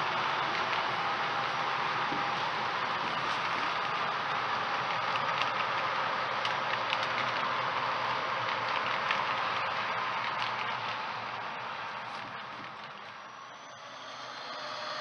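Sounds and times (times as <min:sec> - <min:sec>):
model train cars rolling on track: 0:00.0 - 0:15.0.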